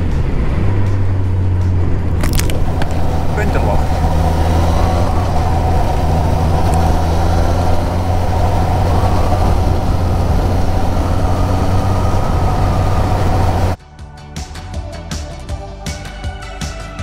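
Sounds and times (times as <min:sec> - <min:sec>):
motorcycle engine running: 0:00.0 - 0:13.8
wind and road noise: 0:00.0 - 0:13.8.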